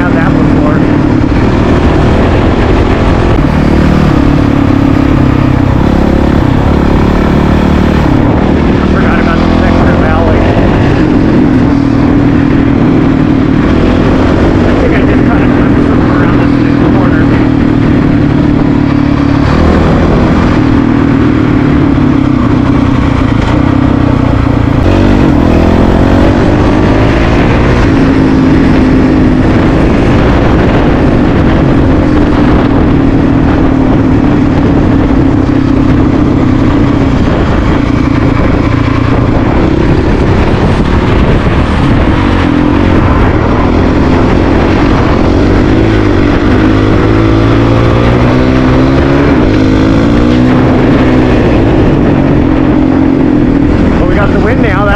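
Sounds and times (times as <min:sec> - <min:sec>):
motorcycle engine revving: 0:00.0 - 0:54.9
rush of noise: 0:00.0 - 0:54.9.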